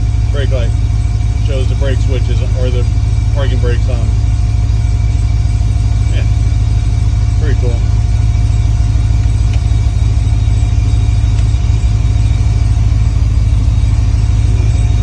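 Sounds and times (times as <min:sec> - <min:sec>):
engine idling with deep rumble: 0:00.0 - 0:15.0.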